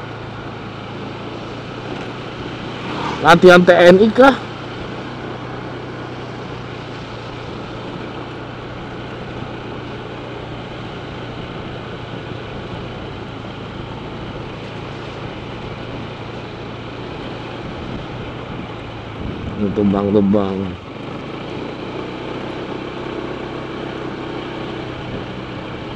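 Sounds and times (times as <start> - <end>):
road and wind noise: 0.0 - 25.9
scooter engine running: 0.0 - 25.9.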